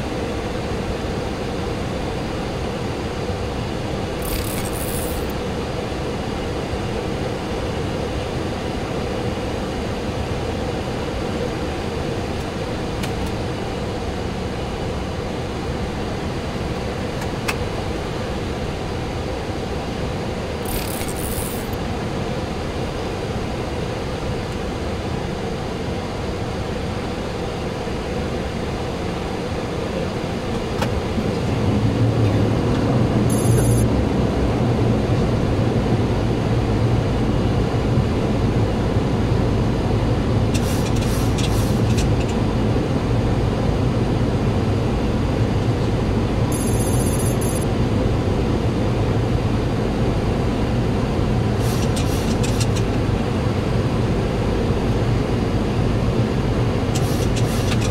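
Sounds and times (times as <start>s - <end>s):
aircraft engine noise: 0.0s - 57.9s.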